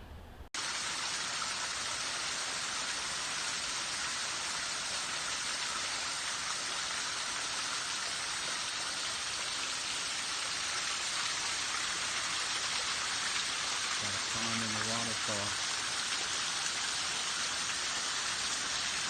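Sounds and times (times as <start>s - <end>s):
falling water splashing: 0.6s - 19.0s.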